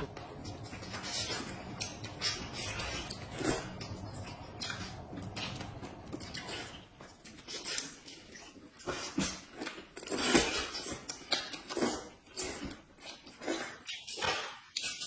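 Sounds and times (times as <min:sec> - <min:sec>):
food chewing: 0:00.0 - 0:15.0.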